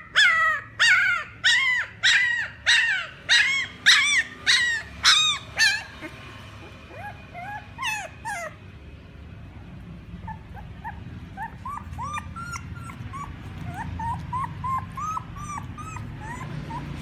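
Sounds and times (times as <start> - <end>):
puppies squeaking and whimpering: 0.0 - 8.8, 10.0 - 17.0.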